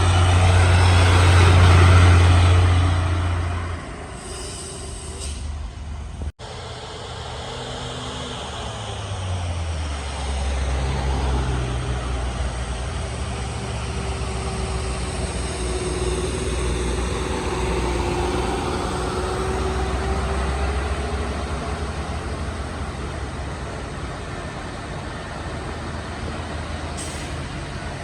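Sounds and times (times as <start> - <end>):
heavy truck engine drone: 0.0 - 28.0.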